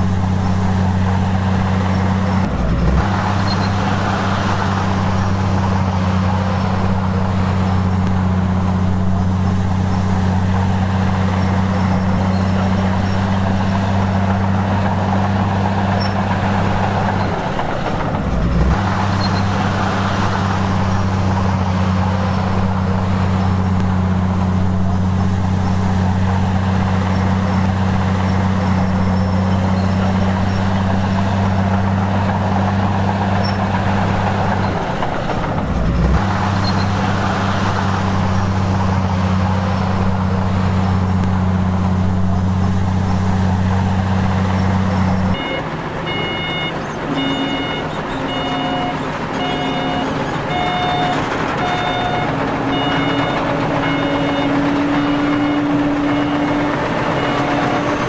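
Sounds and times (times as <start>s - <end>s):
heavy machinery diesel engine running: 0.0s - 58.0s.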